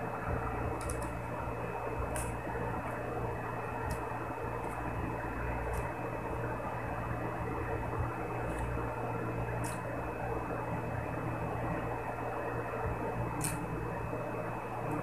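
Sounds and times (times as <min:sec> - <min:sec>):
whirring background hum: 0:00.0 - 0:15.0.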